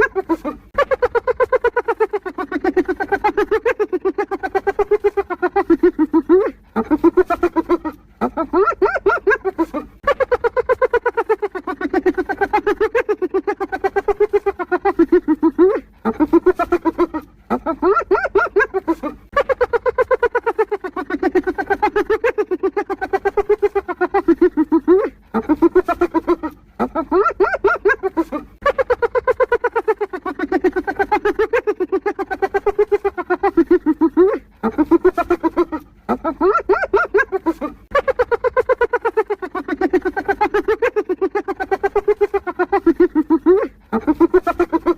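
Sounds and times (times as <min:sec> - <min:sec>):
hyena giggling: 0:00.0 - 0:44.9.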